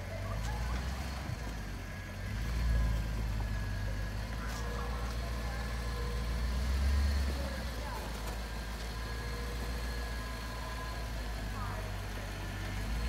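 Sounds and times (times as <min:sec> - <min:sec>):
suv engine low rumble: 0:00.0 - 0:13.0.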